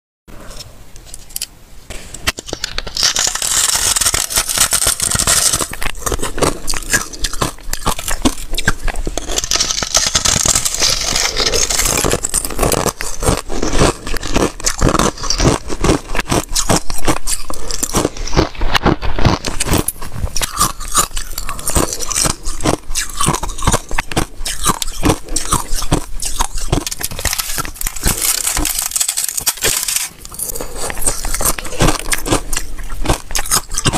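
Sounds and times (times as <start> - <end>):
ice crunched between teeth: 2.3 - 33.9.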